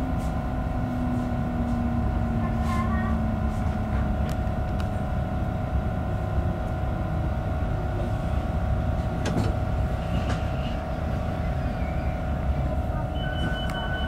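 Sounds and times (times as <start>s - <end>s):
train equipment hum and rumble: 0.0s - 14.0s.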